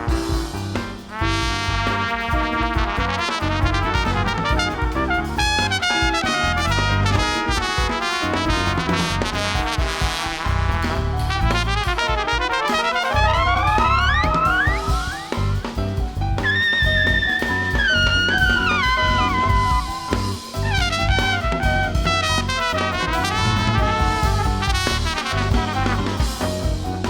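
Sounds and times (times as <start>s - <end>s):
jazz quartet playing: 0.0s - 27.0s
trumpet melody: 0.0s - 27.0s.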